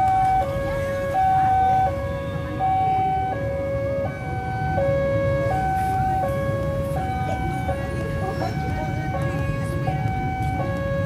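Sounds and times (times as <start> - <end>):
level crossing two-tone alarm: 0.0 - 11.0
motorbikes and cars idling: 0.0 - 11.0.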